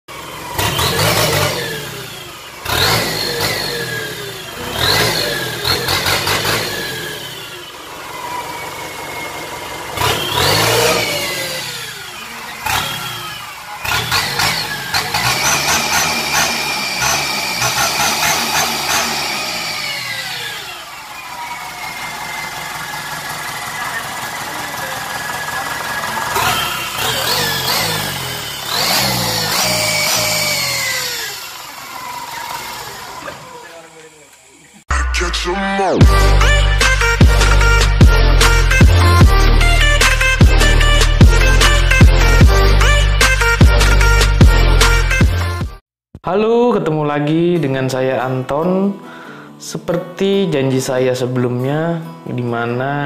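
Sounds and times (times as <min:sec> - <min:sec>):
diesel engine revving and idling: 0:00.0 - 0:45.7.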